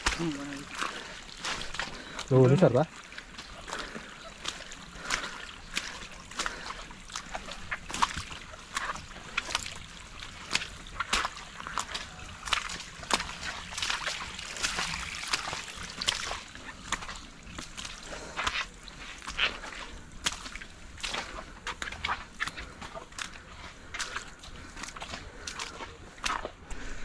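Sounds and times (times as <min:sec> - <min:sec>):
footsteps squelching in mud: 0:00.0 - 0:27.0.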